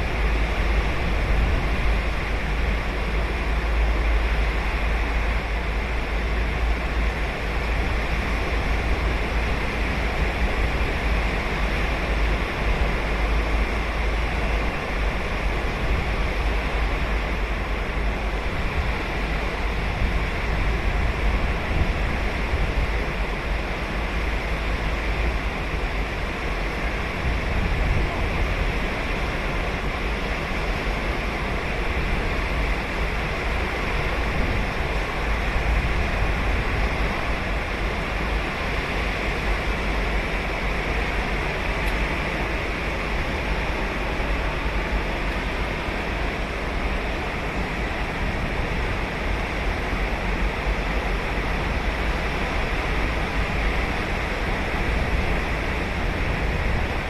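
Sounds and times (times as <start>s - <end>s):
ocean surf washing on beach: 0.0s - 57.0s.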